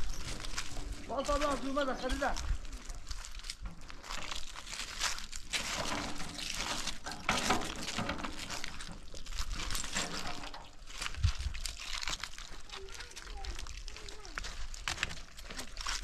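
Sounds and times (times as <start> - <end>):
water pouring and splashing: 0.0 - 16.0.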